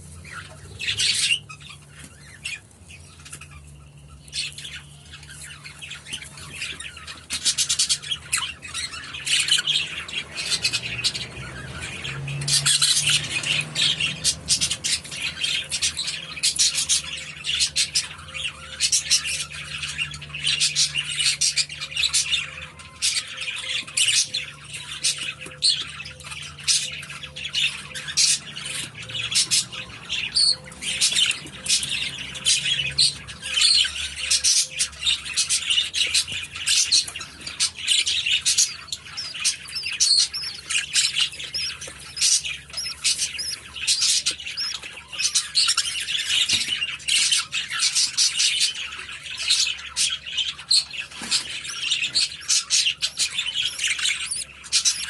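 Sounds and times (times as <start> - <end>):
budgerigars chirping and squawking: 0.0 - 55.0.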